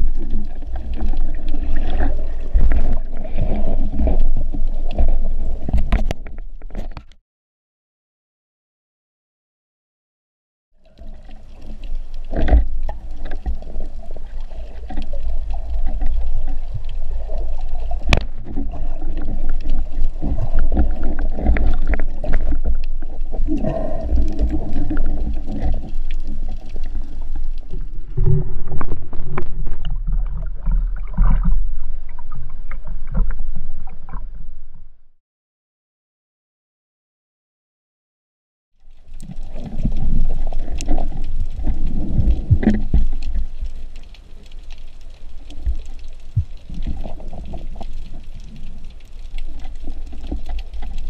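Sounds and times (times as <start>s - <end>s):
underwater water rumble: 0.0s - 7.0s, 10.8s - 35.2s, 38.8s - 51.0s.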